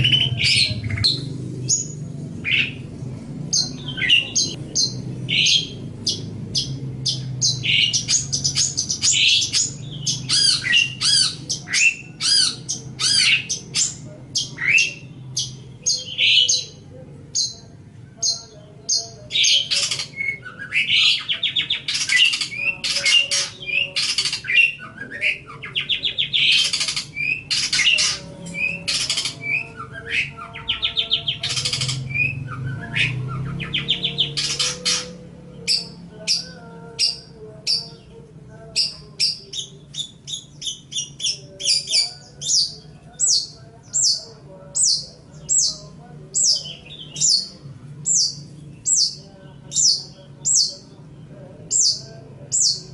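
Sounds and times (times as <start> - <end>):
shrike singing: 0.0 - 52.9.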